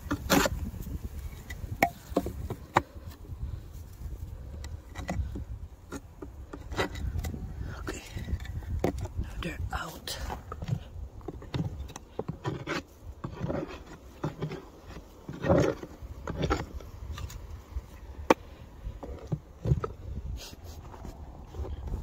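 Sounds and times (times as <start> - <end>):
scraping on wooden hive: 0.0 - 22.0.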